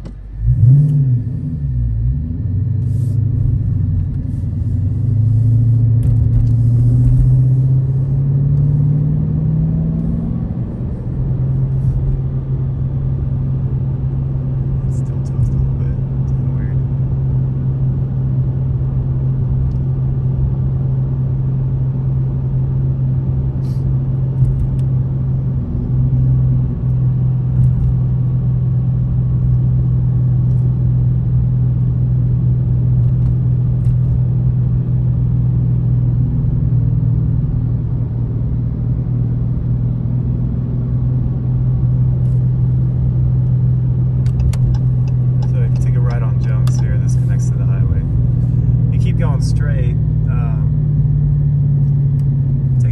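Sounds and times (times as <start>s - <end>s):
car interior driving drone: 0.0s - 52.9s.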